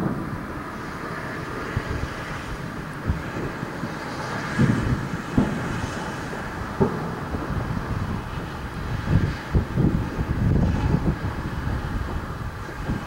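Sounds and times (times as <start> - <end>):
fireworks booms echoing: 0.0 - 1.0, 1.6 - 11.4
distant fireworks rumble: 0.0 - 13.0.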